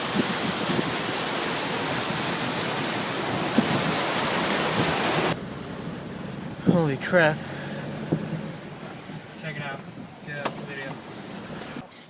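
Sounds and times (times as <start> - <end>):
rushing water or heavy rain: 0.0 - 5.4, 7.1 - 11.8.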